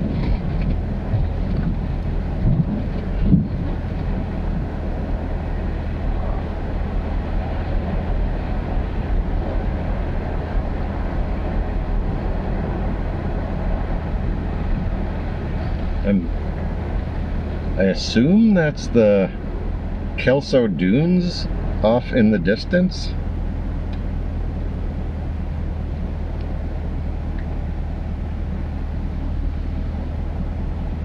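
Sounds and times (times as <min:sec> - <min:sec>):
pickup engine droning: 0:00.0 - 0:31.0
road and wind noise: 0:00.0 - 0:31.0.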